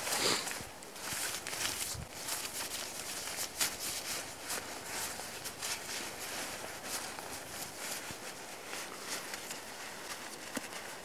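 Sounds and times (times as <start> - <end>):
nylon fabric rustling and scraping: 0.0 - 11.0.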